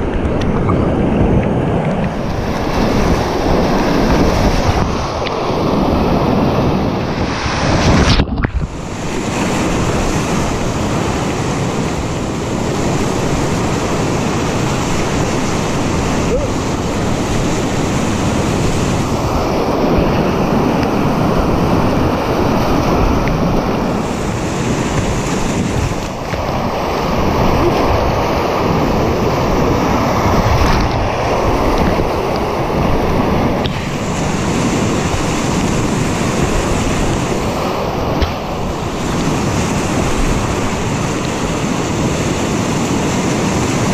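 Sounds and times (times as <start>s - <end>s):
water washing over kayak: 0.0s - 43.9s
whitewater rapids rushing: 0.0s - 43.9s.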